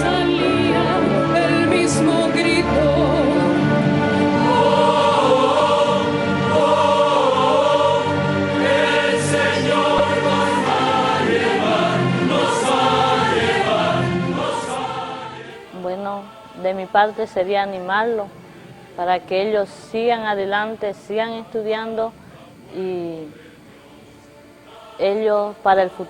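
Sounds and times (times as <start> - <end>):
choir singing sacred music: 0.0 - 19.5, 20.3 - 26.0.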